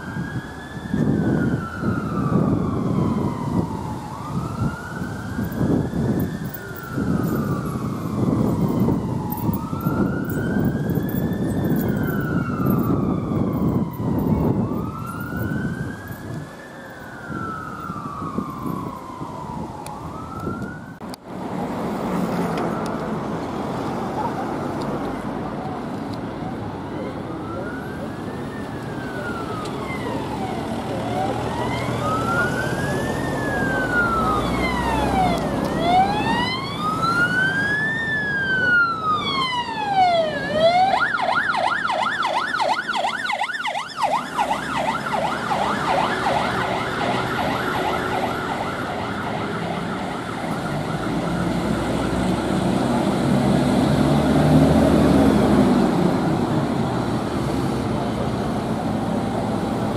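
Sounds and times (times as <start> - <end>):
ambulance siren yelping: 0.0 - 21.1, 24.0 - 52.6
ambulance siren wailing: 0.0 - 21.2, 22.4 - 59.9
road traffic: 0.0 - 59.9
vehicle engine rumbling: 1.1 - 59.9.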